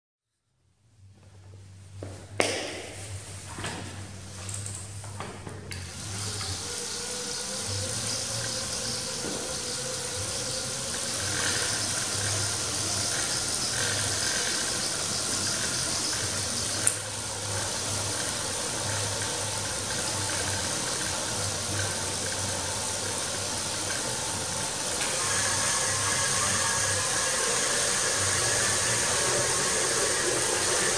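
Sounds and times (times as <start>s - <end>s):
bicycle generator whirring: 0.8s - 30.9s.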